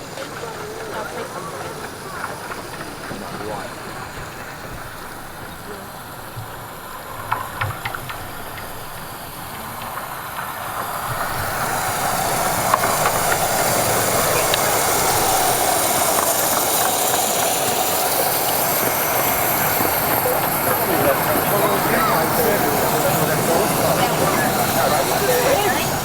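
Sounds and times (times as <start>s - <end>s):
miniature train running: 0.0s - 26.0s
steam hiss: 0.0s - 26.0s.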